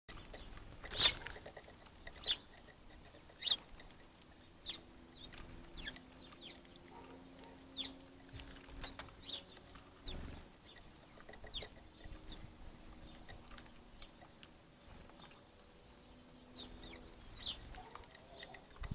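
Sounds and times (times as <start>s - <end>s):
birds chirping: 0.1s - 18.9s
faint low hum: 0.1s - 18.9s.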